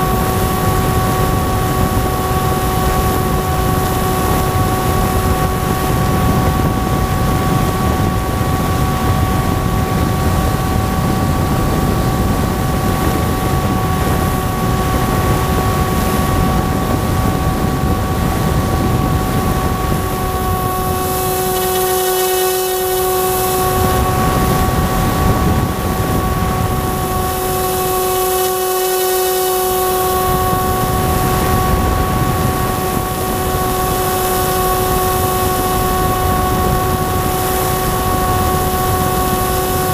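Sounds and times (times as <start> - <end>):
electric motor and propeller whining: 0.0 - 39.9
wind rumbling on microphone: 0.0 - 39.9.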